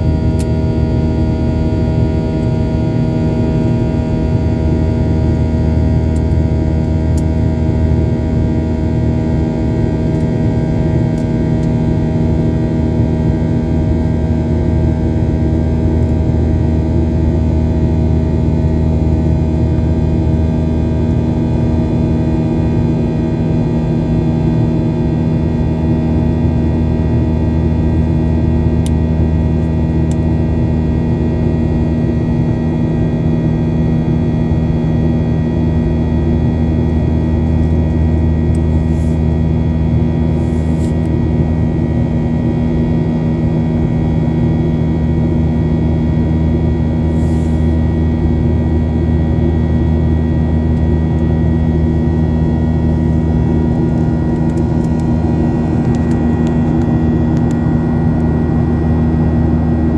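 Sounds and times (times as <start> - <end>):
airliner engine hum in cabin: 0.0 - 59.9.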